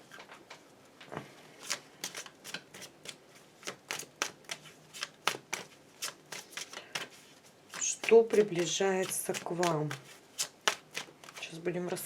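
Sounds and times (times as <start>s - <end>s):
cards being shuffled: 1.6s - 11.5s.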